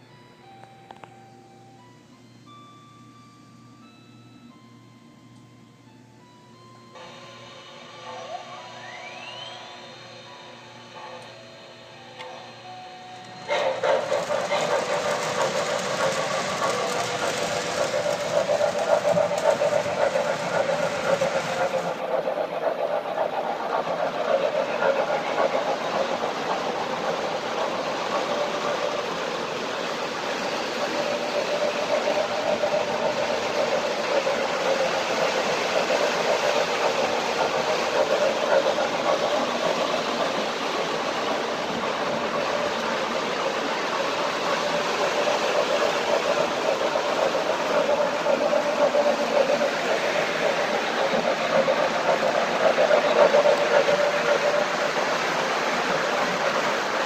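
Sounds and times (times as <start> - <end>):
constant hum: 0.0 - 57.0
model train wheels on track: 7.0 - 57.0.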